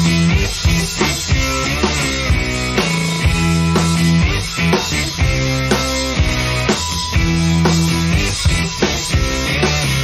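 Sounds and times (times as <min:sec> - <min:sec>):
rock music with guitar: 0:00.0 - 0:10.0
steady drum beat: 0:00.0 - 0:10.0.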